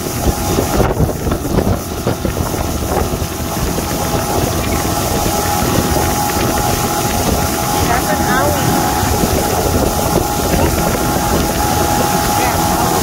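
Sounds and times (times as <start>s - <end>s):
churning wake water: 0.0s - 13.0s
motorboat engine running: 0.0s - 13.0s.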